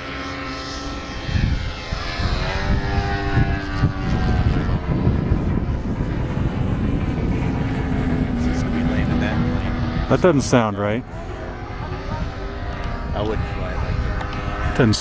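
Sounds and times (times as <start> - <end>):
low rumble: 0.0 - 15.0
model airplane engine droning: 0.0 - 15.0.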